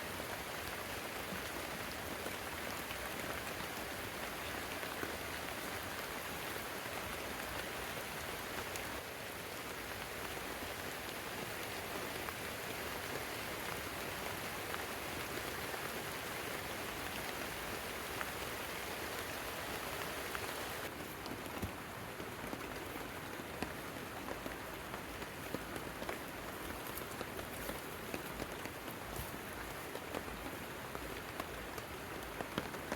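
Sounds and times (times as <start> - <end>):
heavy rain falling: 2.1 - 32.9.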